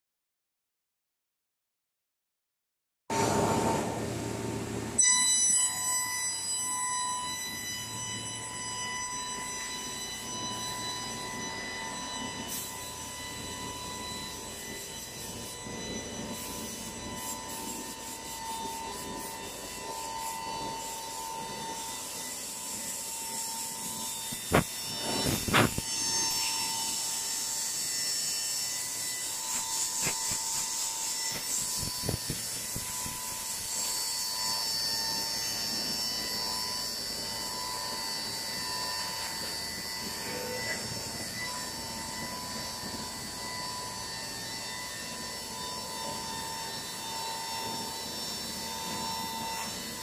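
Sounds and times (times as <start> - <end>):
woodworking machine motor whine: 3.1 - 50.0.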